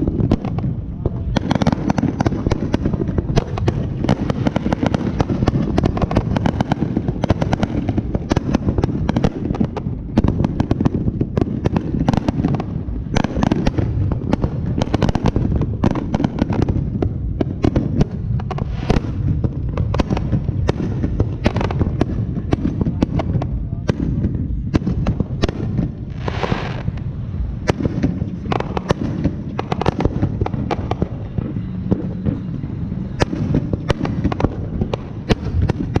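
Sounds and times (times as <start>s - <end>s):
fireworks banging and crackling: 0.0s - 36.0s.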